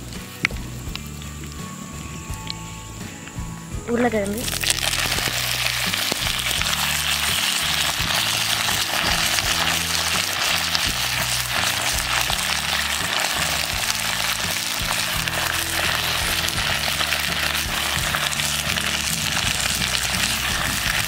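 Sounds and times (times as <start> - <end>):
potatoes sizzling in oil: 4.0 - 21.0.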